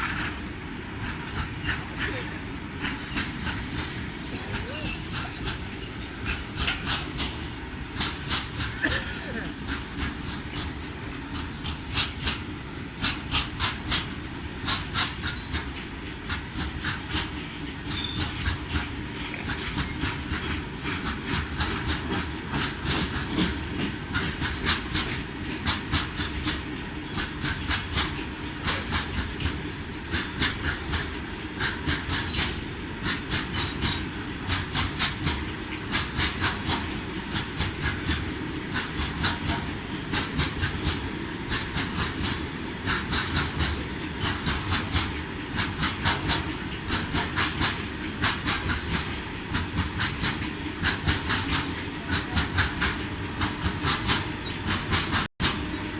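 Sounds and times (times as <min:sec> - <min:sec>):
train rumble: 0:00.0 - 0:55.9
wheels clicking over rail joints: 0:00.0 - 0:55.9.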